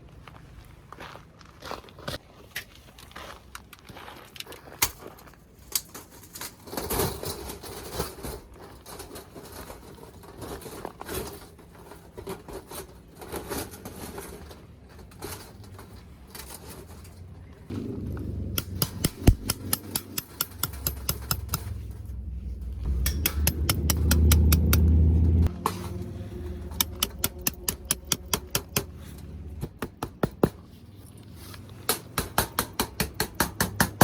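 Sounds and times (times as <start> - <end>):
clicks knocks and scraping rustles: 3.6 - 17.6, 18.6 - 34.0.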